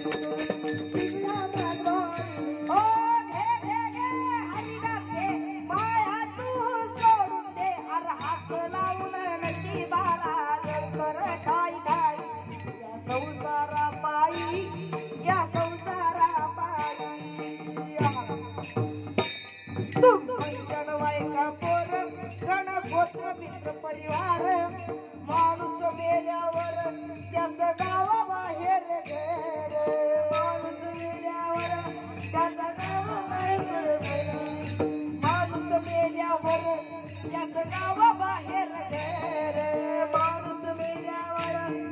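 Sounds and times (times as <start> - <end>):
boy singing into a microphone: 0.0 - 18.8, 19.8 - 41.9
hand cymbals beating: 0.0 - 41.9.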